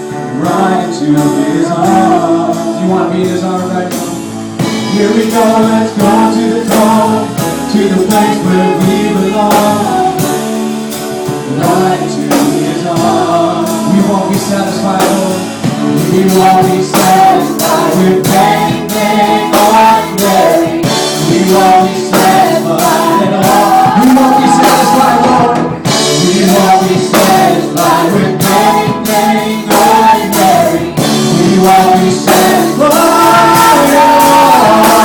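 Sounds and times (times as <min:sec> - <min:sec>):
live band playing: 0:00.0 - 0:35.0
worship team singing gospel song: 0:00.0 - 0:35.0.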